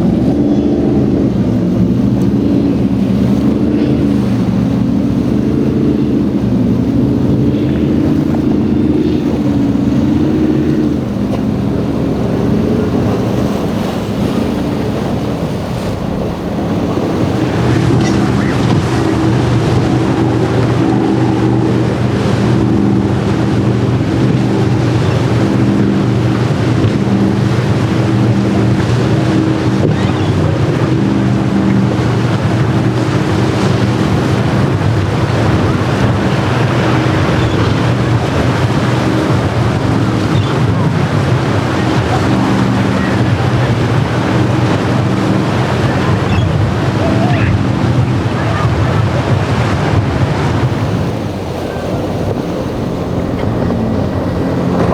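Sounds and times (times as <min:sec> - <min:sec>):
motorboat engines droning: 0:00.0 - 0:54.9
waves washing: 0:00.0 - 0:54.9
wind buffeting microphone: 0:00.0 - 0:54.9.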